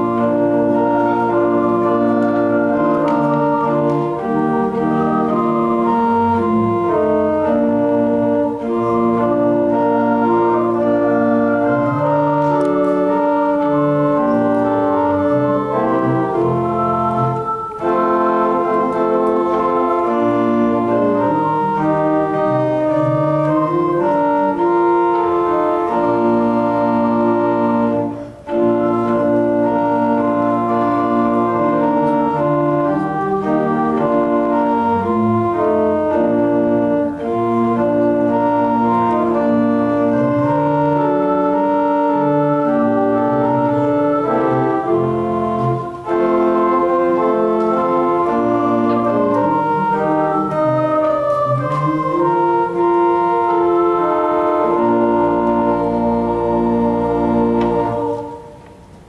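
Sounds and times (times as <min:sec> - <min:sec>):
deep low organ note: 0:00.0 - 0:58.7
organ playing held chords: 0:00.0 - 0:59.0.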